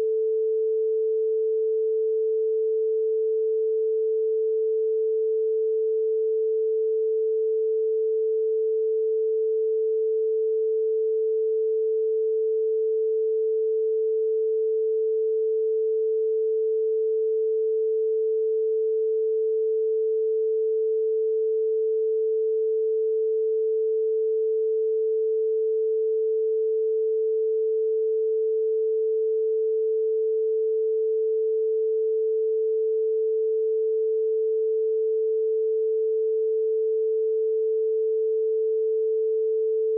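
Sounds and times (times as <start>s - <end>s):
steady censor tone: 0.0s - 39.9s.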